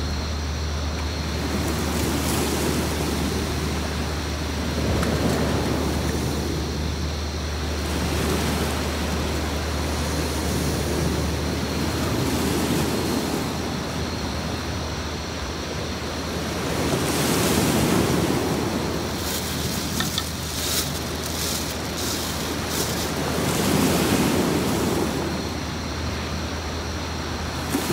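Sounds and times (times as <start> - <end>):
sea waves washing on beach: 0.0 - 27.9.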